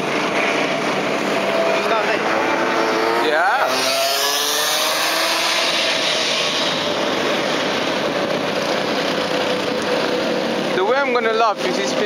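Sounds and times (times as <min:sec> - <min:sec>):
go-kart engine passing: 0:00.0 - 0:12.0.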